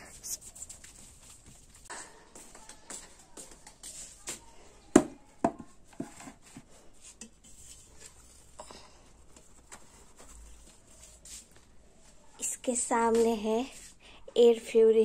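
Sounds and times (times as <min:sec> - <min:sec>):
rustling of household things: 0:00.0 - 0:14.0.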